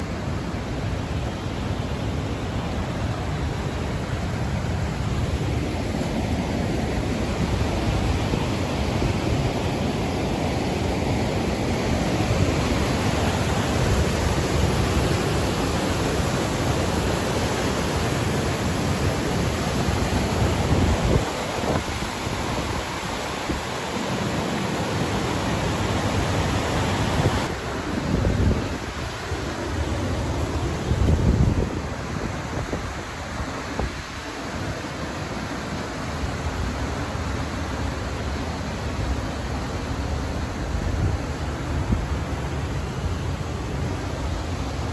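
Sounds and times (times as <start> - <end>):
water rushing through floodgate: 0.0 - 44.9.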